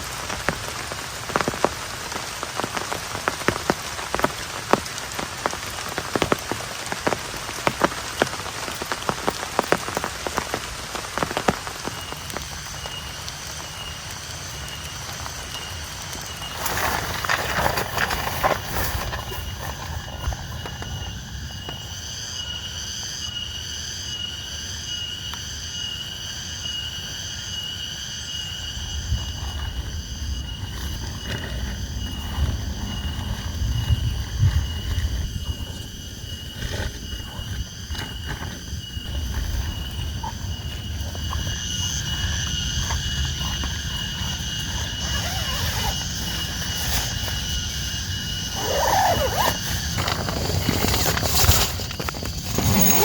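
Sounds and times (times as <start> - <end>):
rain and wind rumble: 0.0 - 22.0, 28.5 - 53.0
insects chorus: 0.0 - 53.0.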